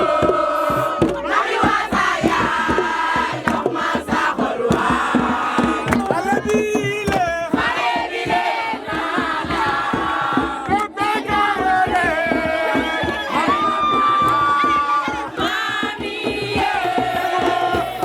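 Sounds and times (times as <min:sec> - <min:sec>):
fast percussive beat: 0:00.0 - 0:18.0
group of voices singing and chanting: 0:00.0 - 0:18.0.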